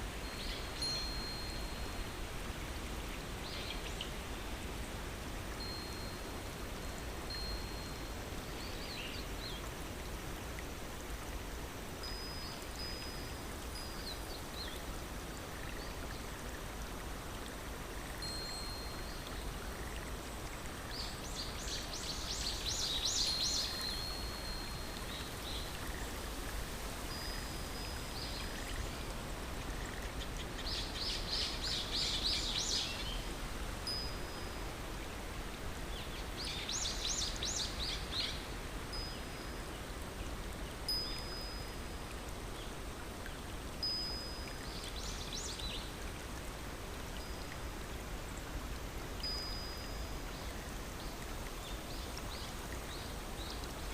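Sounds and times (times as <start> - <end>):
running water rushing: 0.0 - 53.9.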